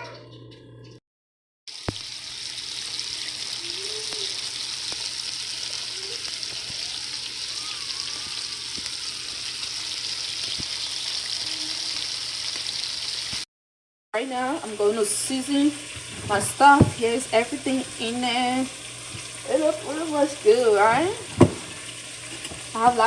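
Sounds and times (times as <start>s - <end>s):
food sizzling in hot oil: 1.7s - 13.4s, 14.4s - 23.0s.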